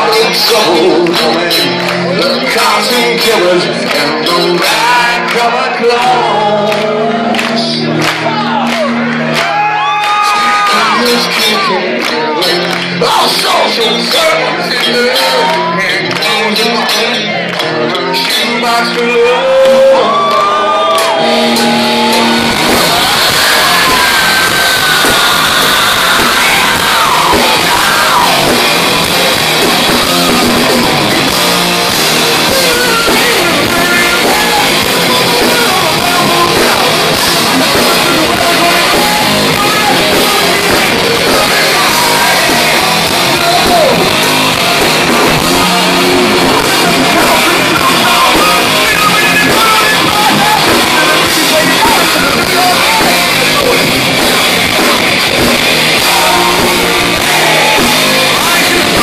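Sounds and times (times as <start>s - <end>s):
bass guitar: 0.0s - 59.0s
distorted electric guitars: 0.0s - 59.0s
drum kit: 0.0s - 59.0s.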